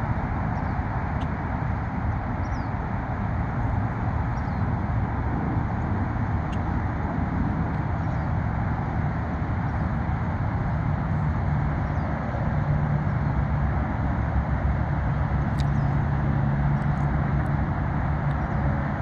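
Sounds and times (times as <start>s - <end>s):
low hum: 0.0s - 19.0s
low outdoor rumble: 0.0s - 19.0s.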